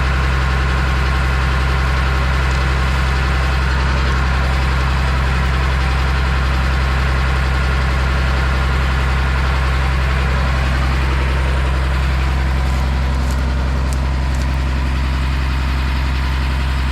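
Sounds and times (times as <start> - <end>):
engine humming steadily: 0.0 - 16.9.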